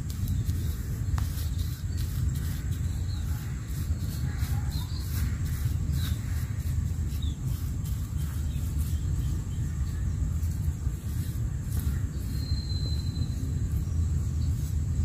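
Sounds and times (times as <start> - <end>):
steady low rumble: 0.0 - 15.0
faint bird chirps: 0.2 - 14.8.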